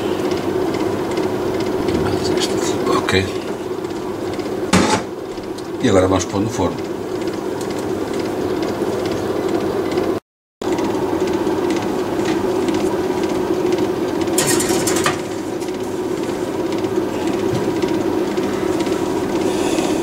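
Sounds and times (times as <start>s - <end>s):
appliance fan humming: 0.0s - 20.0s.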